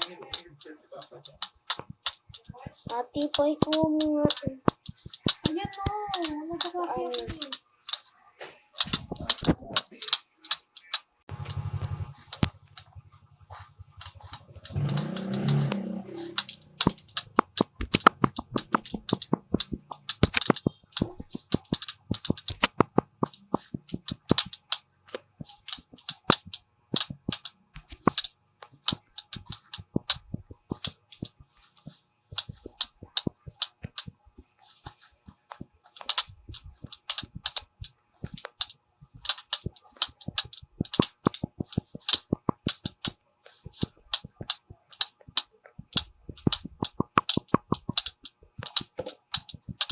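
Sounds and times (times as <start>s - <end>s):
fingers tapping on objects: 0.0s - 8.1s, 8.8s - 49.9s.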